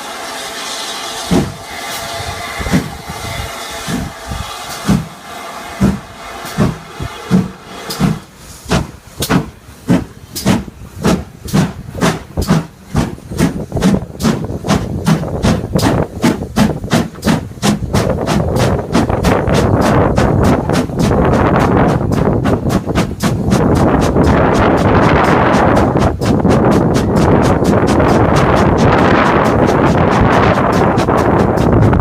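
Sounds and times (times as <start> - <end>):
steam hiss: 0.0 - 32.0
steam locomotive exhaust chuffs: 0.0 - 32.0.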